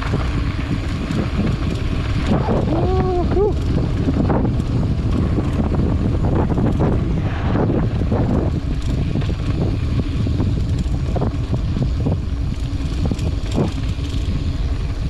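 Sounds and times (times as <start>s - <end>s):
bike rattling on dirt trail: 0.0s - 15.0s
wind buffeting the microphone: 0.0s - 15.0s.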